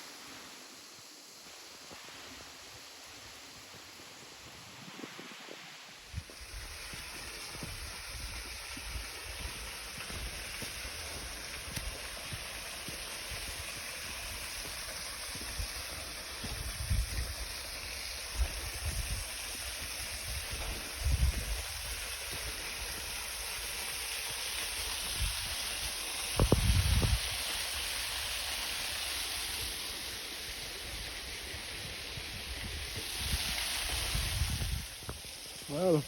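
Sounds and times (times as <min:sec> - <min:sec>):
waterfall hissing: 0:00.0 - 0:36.0.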